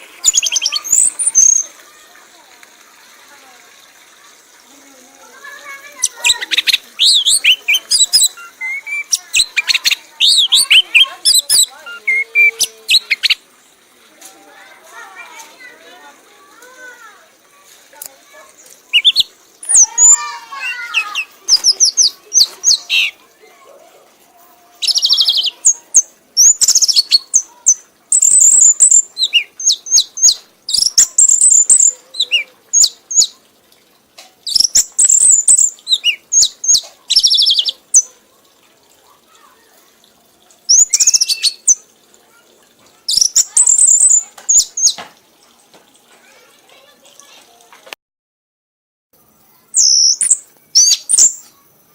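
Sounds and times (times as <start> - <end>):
songbird chirps and trills: 0.0 - 47.9, 49.2 - 51.9.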